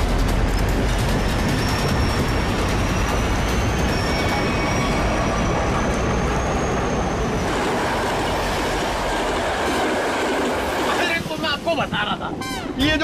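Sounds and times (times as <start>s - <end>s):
train carriages rumbling and rattling: 0.0s - 13.0s.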